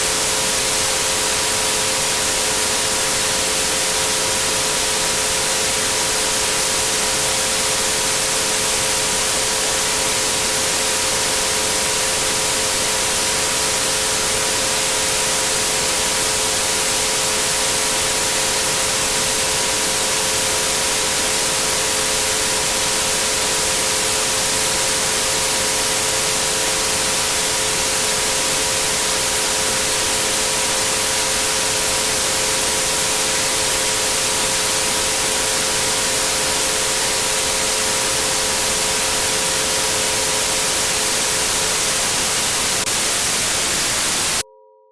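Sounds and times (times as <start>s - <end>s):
steady pure tones: 0.0s - 44.4s
white noise hiss: 0.0s - 44.4s.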